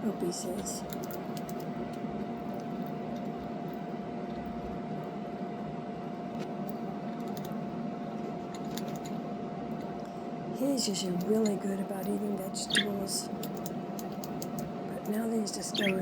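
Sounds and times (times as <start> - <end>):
fan-like machine hum: 0.0 - 16.0.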